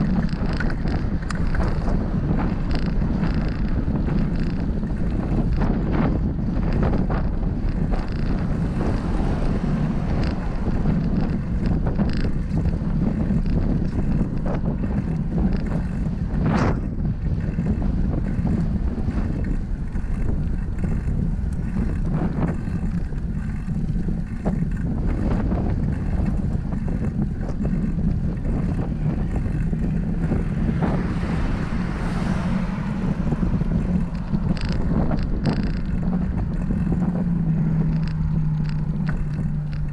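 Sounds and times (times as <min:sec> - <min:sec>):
passing traffic: 0:00.0 - 0:39.9
wind buffeting microphone: 0:00.0 - 0:39.9.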